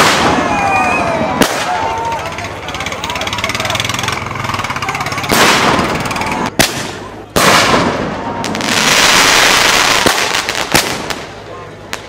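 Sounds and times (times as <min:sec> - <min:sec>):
firework loud rush: 0:00.0 - 0:12.0
fireworks crackling and hissing: 0:00.0 - 0:12.0.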